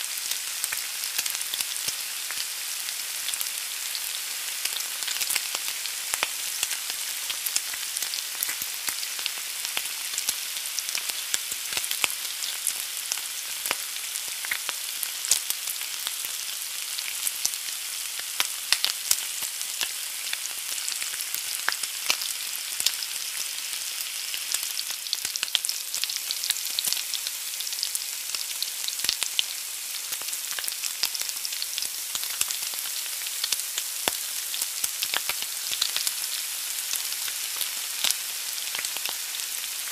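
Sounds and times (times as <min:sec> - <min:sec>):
egg sizzling in a pan: 0:00.0 - 0:39.9.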